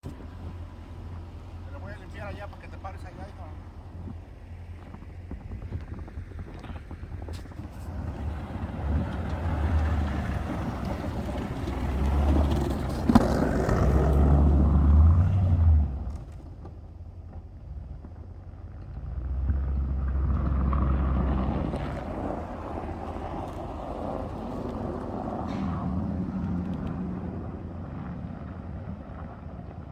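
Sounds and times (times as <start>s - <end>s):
pickup engine pushing snow: 0.0s - 29.9s.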